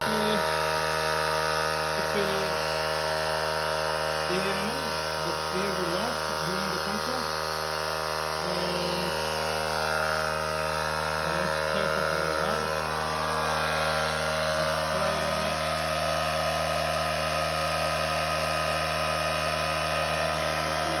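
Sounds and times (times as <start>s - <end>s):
mechanical hum with hiss: 0.0s - 21.0s.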